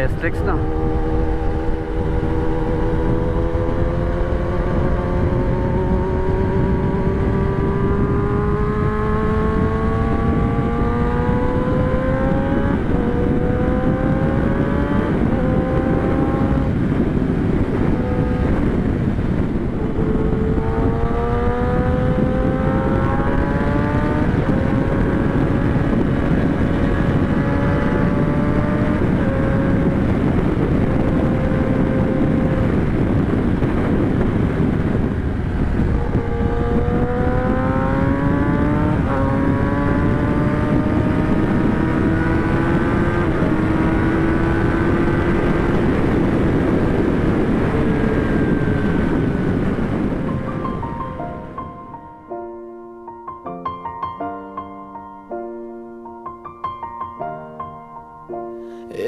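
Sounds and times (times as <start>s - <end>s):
motorcycle engine accelerating: 0.0s - 52.3s
wind rushing over microphone: 0.0s - 59.0s.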